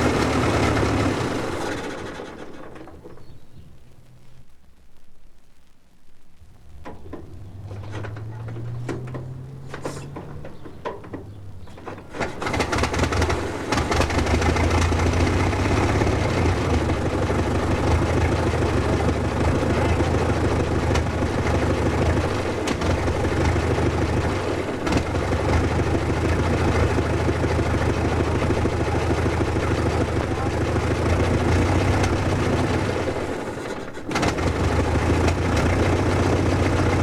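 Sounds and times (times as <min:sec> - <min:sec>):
engine clicks and knocks: 0:00.0 - 0:03.6, 0:06.7 - 0:37.0
old car engine running: 0:00.0 - 0:04.3, 0:06.6 - 0:37.0.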